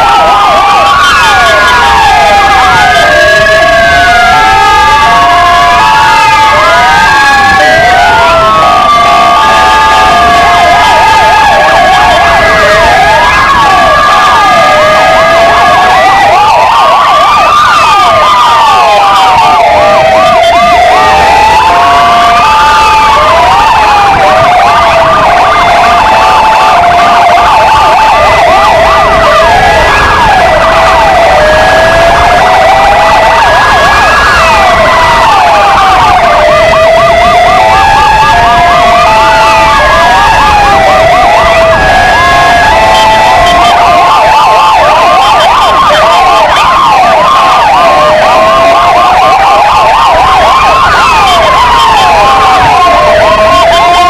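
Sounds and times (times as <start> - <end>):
two-tone siren notes: 0.0 - 54.0
wailing sirens: 0.0 - 54.0
warbling siren yelp: 0.0 - 54.0.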